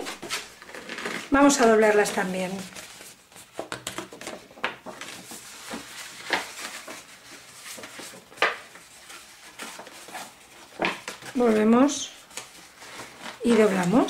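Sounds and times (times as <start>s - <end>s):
card crackling as folded: 0.0s - 11.6s, 12.2s - 14.0s
paper rustling: 0.0s - 14.0s.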